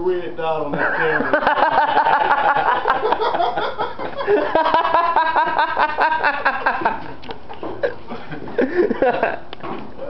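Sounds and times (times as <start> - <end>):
men laughing: 0.7 - 9.5.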